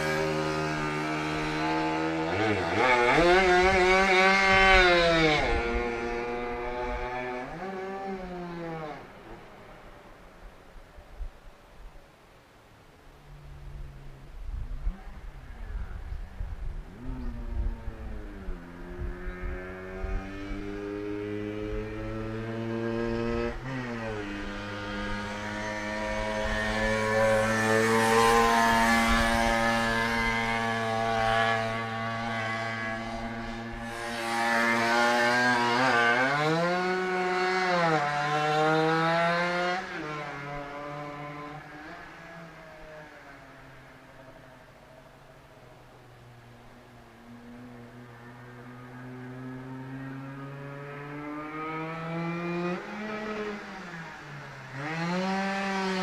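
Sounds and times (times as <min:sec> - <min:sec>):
two-stroke racing motorcycle engine: 0:00.0 - 0:09.1, 0:16.9 - 0:43.8, 0:47.0 - 0:56.0.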